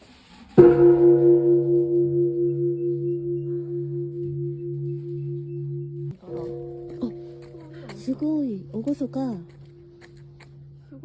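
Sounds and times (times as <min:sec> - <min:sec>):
large temple bell ringing: 0:00.6 - 0:11.0.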